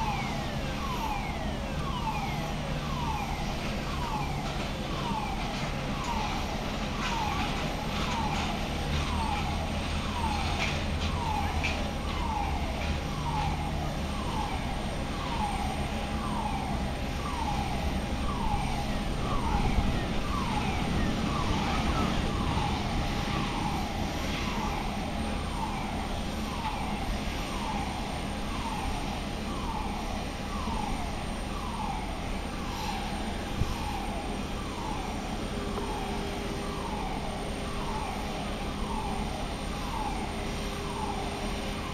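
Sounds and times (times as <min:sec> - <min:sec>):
low hum of ground equipment: 0:00.0 - 0:41.9.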